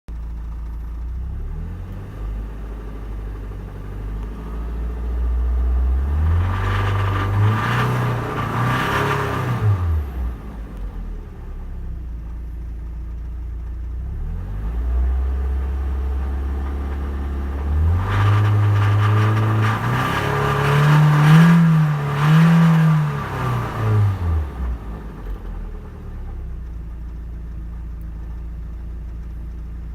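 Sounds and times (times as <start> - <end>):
car engine idling and revving: 0.1 - 29.9.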